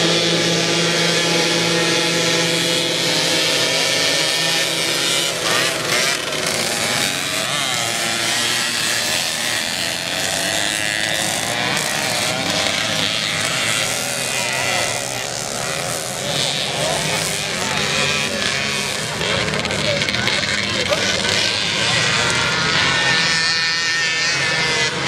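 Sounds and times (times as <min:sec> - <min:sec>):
moped engines revving: 0:00.0 - 0:25.0.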